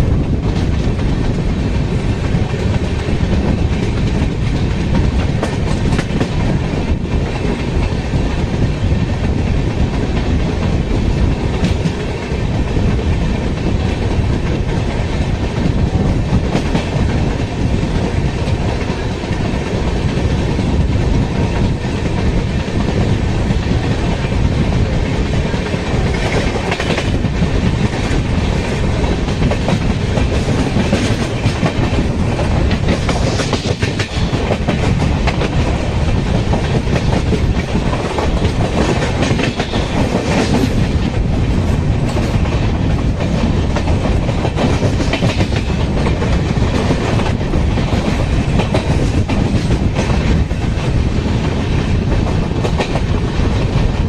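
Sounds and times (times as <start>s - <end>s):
rushing air: 0.0s - 54.0s
train wheels rumbling: 0.0s - 54.0s.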